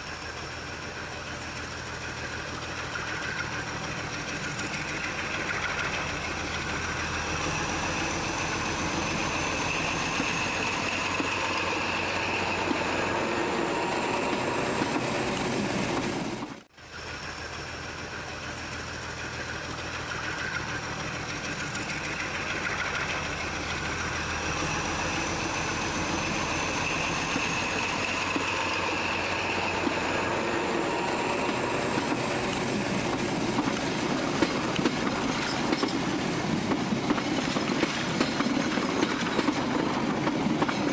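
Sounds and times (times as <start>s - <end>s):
train rolling rumble: 0.0s - 40.9s.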